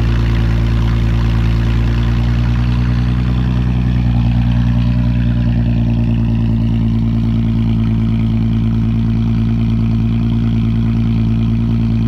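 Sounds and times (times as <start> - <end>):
car engine idling loud exhaust: 0.0 - 12.0.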